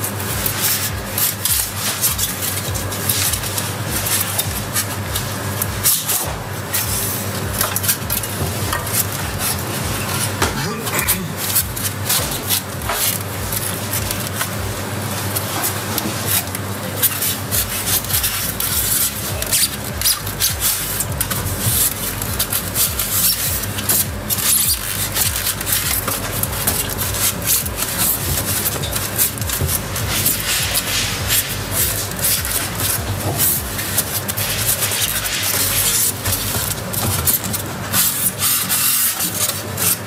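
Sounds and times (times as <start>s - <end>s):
foam rubbing and scraping: 0.0s - 40.0s.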